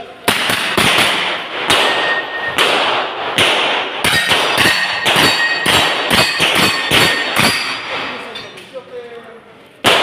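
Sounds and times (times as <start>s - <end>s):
gunshots echoing off concrete: 0.2s - 8.4s.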